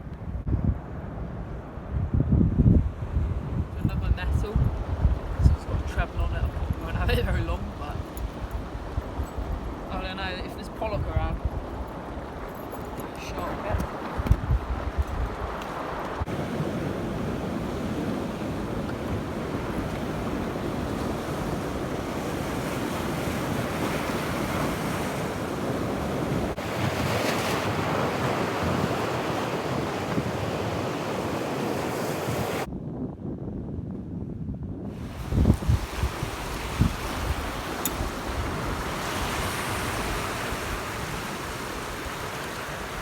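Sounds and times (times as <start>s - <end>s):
wind buffeting microphone: 0.0s - 43.0s
sea waves washing against rocks: 3.9s - 32.7s, 35.0s - 43.0s.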